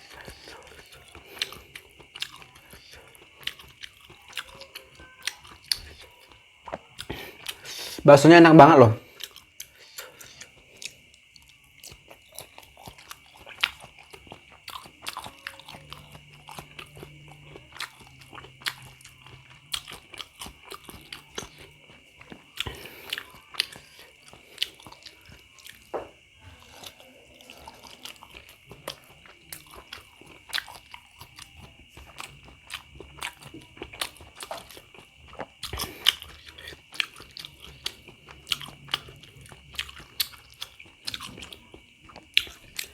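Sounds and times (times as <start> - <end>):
chewing and biting meatballs: 0.0 - 42.9.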